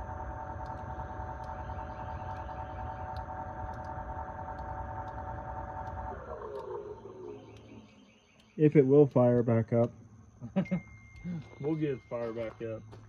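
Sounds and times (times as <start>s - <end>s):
heat pump unit humming and whining: 0.0s - 13.0s.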